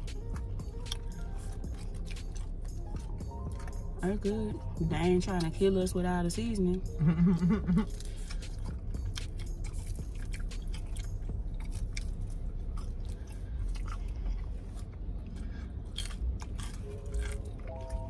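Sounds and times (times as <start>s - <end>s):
chewing and crunching: 0.0s - 5.8s, 6.7s - 18.0s.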